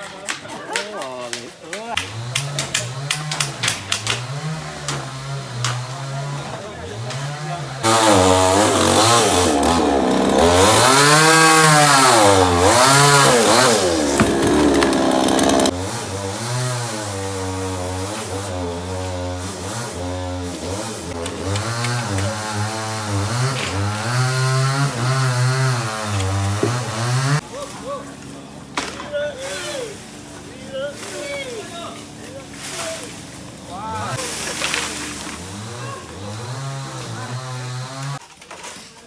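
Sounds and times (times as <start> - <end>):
small petrol engine revving: 2.0 - 27.4, 32.0 - 38.2.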